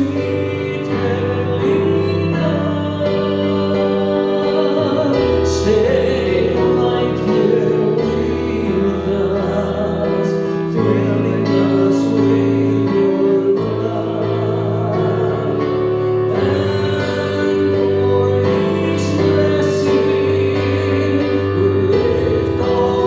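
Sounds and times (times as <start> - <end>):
instrumental accompaniment: 0.0 - 23.0
voices singing worship song: 0.0 - 23.0.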